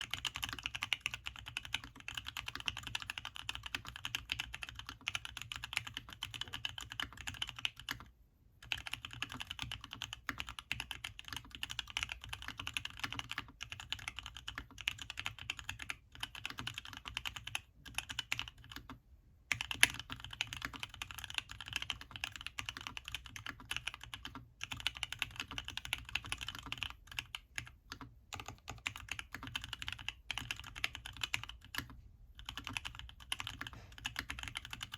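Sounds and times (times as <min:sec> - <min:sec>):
mechanical keyboard typing: 0:00.0 - 0:34.9.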